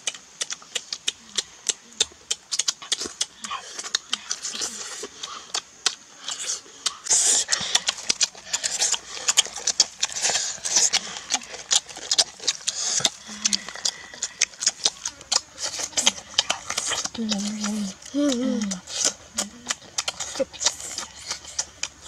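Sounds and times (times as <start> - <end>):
crisp bites and chewing: 0.0 - 22.0
lip smacks: 0.0 - 22.0.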